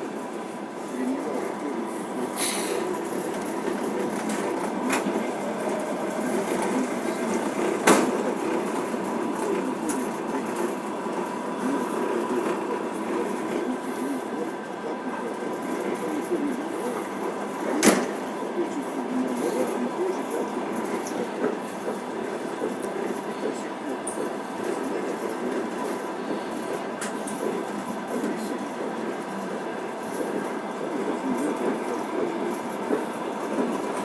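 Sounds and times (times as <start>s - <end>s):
train rolling noise: 0.0s - 34.0s.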